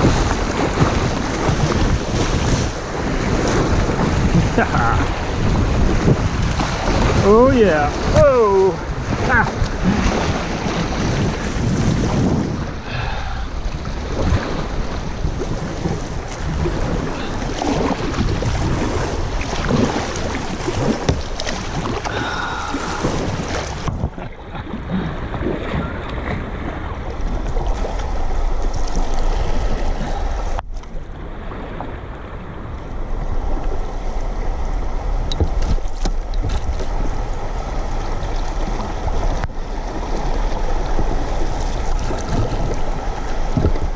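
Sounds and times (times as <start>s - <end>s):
calm flowing water: 0.0s - 43.9s
river water splashing and rushing: 0.0s - 43.9s
wind rumble on microphone: 0.0s - 43.9s.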